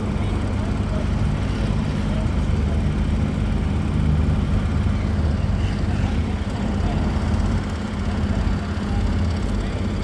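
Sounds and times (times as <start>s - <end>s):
large engine rumbling: 0.0s - 10.0s.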